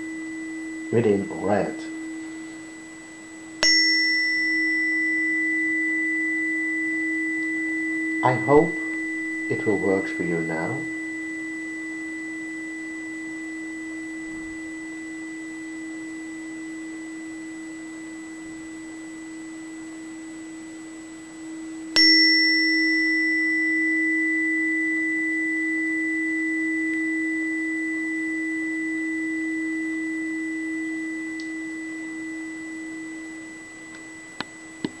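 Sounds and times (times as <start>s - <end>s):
tuning fork ringing: 0.0s - 35.0s
tuning fork strike click: 0.0s - 35.0s.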